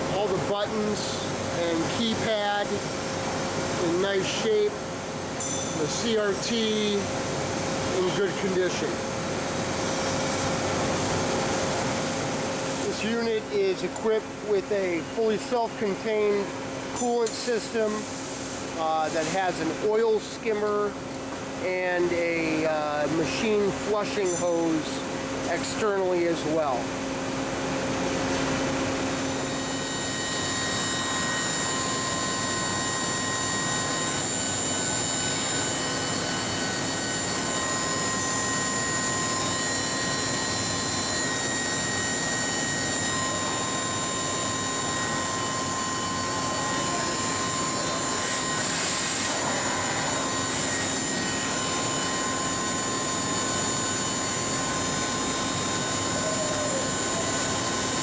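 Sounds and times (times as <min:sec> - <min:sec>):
machinery hum with whining tones: 0:00.0 - 0:58.0.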